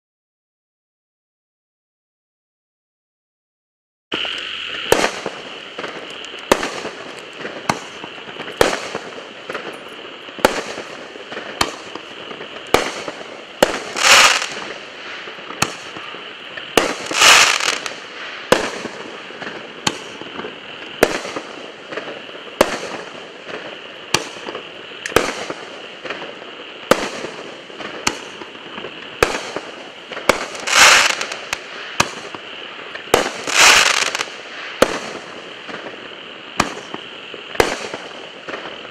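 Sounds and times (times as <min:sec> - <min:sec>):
firework launches and bursts: 0:04.1 - 0:38.9.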